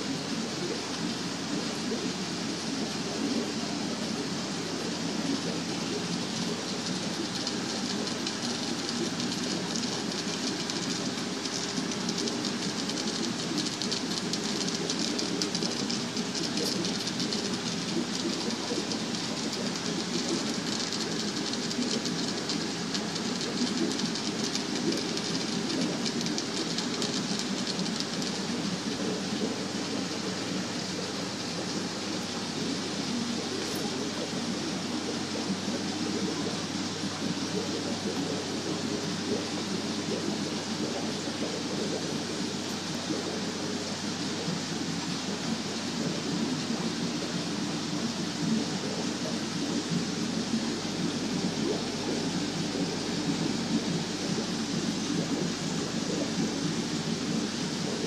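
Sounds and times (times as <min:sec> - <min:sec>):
aquarium aeration bubbling: 0:00.0 - 0:58.0
running water: 0:00.0 - 0:58.0.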